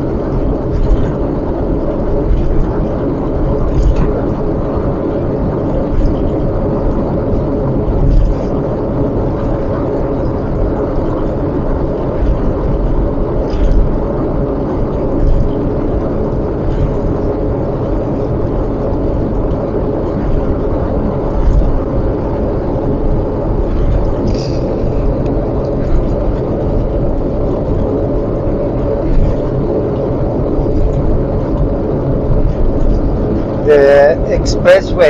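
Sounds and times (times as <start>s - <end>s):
car road and engine noise: 0.0s - 35.0s
faint steady hum: 0.0s - 35.0s.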